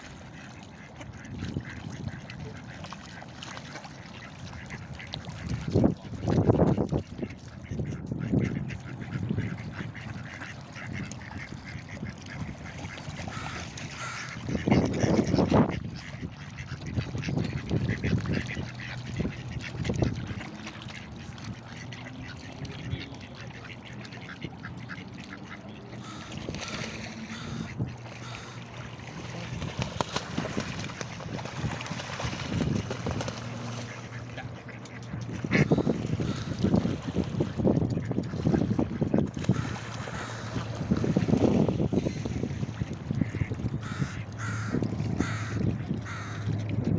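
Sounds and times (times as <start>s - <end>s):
ducks quacking: 0.0s - 46.7s
steady low hum: 0.0s - 46.9s.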